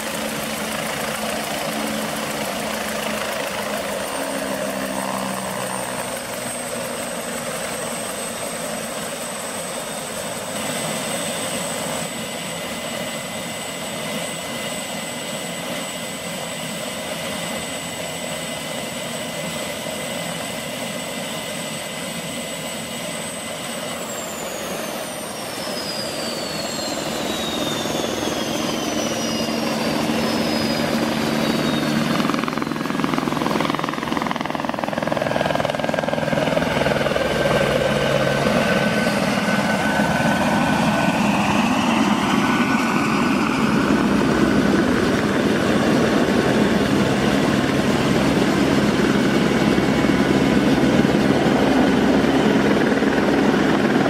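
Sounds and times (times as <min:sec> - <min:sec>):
helicopter rotor noise: 0:00.0 - 0:54.0
helicopter turbine whine: 0:00.0 - 0:54.0.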